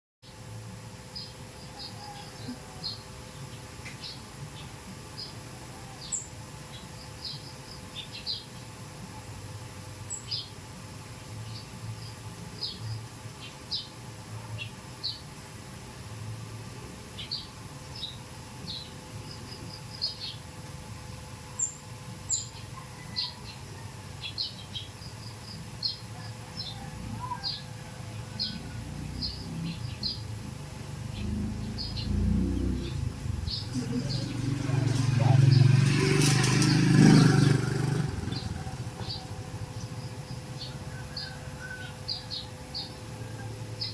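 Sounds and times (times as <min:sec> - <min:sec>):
small birds chirping: 0:01.1 - 0:08.6, 0:11.4 - 0:15.3, 0:17.2 - 0:20.6, 0:21.6 - 0:30.4, 0:31.0 - 0:43.9.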